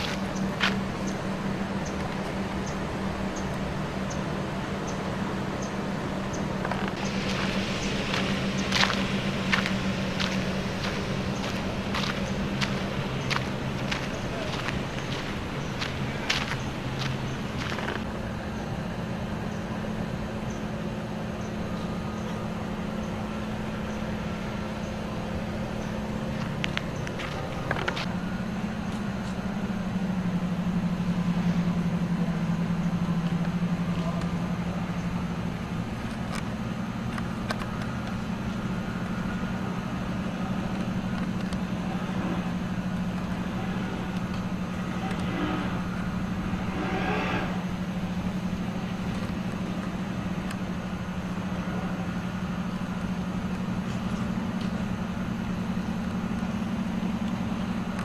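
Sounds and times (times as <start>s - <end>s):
motor droning: 0.0s - 58.0s.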